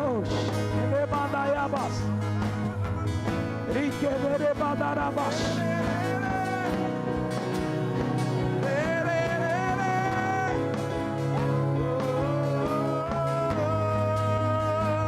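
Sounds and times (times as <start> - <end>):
slow worship music: 0.0 - 15.0.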